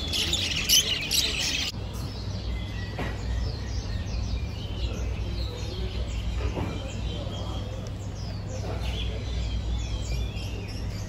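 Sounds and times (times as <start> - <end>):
faint bird chirps: 0.0 - 11.0
lovebirds chirping loudly: 0.0 - 11.0.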